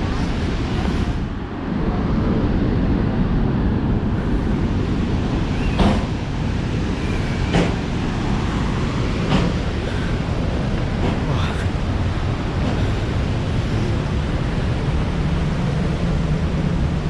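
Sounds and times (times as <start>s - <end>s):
waterfall roaring: 0.0s - 17.0s
wind buffeting microphone: 0.0s - 17.0s.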